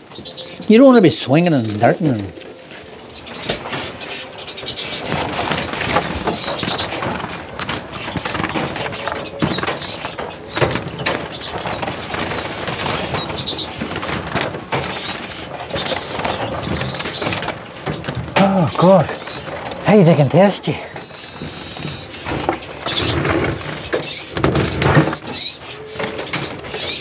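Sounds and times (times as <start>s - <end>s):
small birds chirping: 0.0s - 27.0s
wings fluttering: 0.0s - 27.0s.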